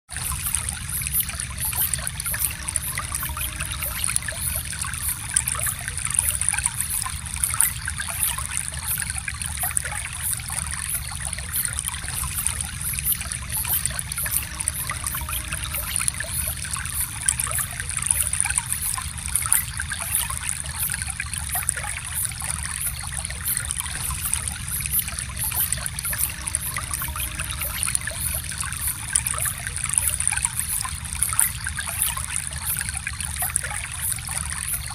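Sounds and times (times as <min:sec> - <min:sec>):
stream of water trickling: 0:00.1 - 0:34.9.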